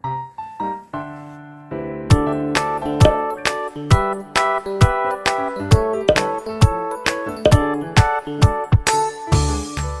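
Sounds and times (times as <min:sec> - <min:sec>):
background music with keyboard: 0:00.0 - 0:10.0.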